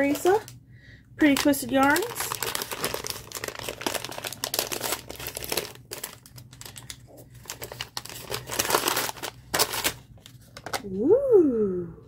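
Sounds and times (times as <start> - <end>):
gift wrapping paper crinkling: 0.0 - 0.5, 1.2 - 10.9.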